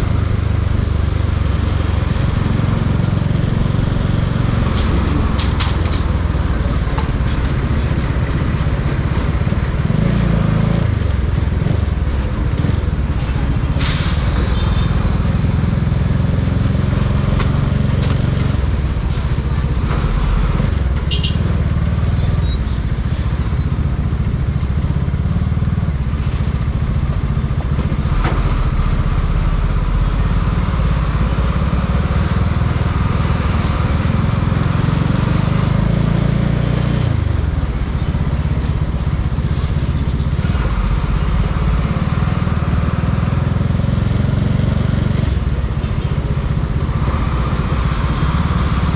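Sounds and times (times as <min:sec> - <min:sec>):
road and wind noise: 0:00.0 - 0:48.9.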